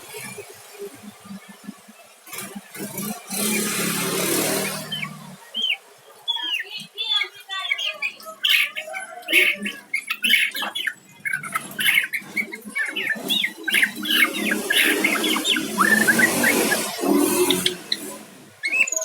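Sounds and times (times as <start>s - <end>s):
songbird whistled song: 3.3s - 19.0s.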